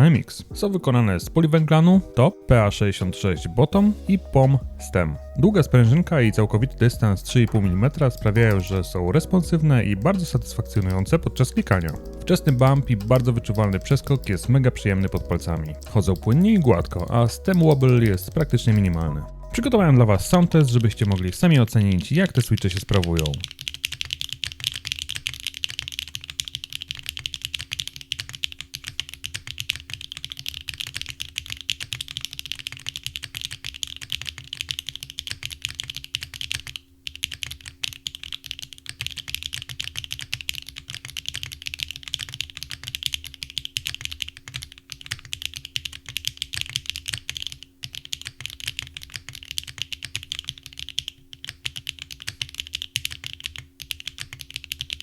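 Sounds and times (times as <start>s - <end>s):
typing on mechanical keyboard: 5.5s - 55.0s.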